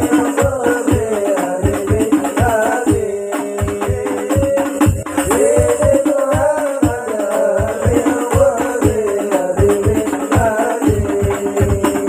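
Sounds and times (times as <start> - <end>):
frame drums and bass drum: 0.0 - 12.0
men singing devotional songs: 0.0 - 12.0.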